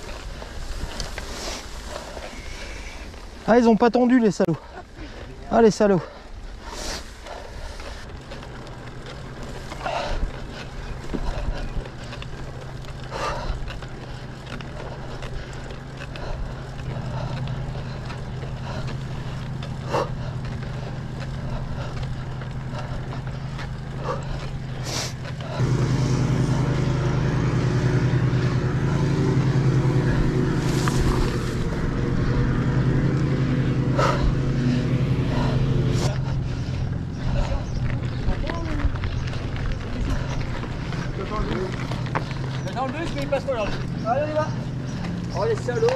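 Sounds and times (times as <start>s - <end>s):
mountain bike riding hum: 0.0s - 45.9s.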